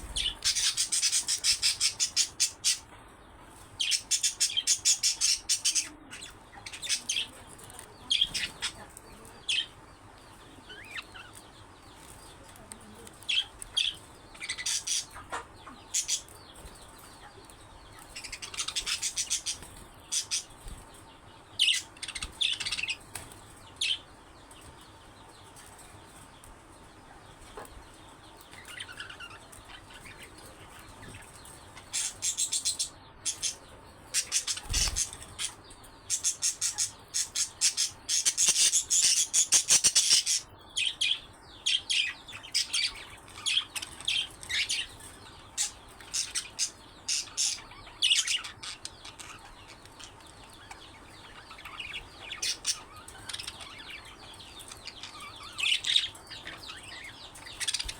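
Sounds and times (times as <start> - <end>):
budgerigars chirping: 0.0 - 2.9, 3.8 - 11.7, 12.9 - 17.3, 17.9 - 20.8, 21.6 - 24.0, 28.3 - 57.9.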